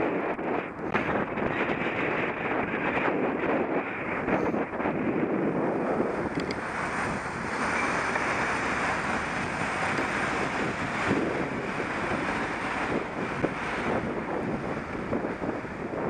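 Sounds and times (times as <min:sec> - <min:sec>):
wind rush on microphone: 0:00.0 - 0:16.0
road and traffic noise: 0:00.1 - 0:16.0.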